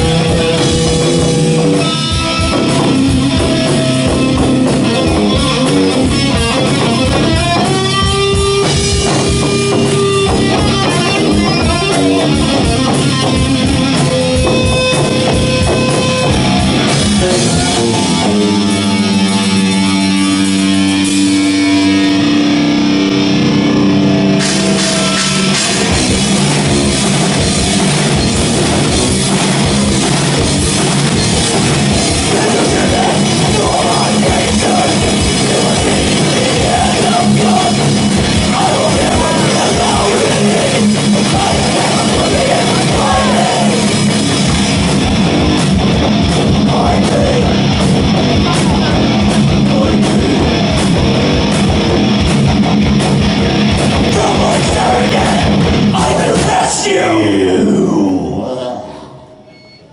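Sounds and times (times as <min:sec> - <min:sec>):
fast drums: 0:00.0 - 0:23.2, 0:24.2 - 0:57.0
distorted guitars: 0:00.0 - 0:59.9.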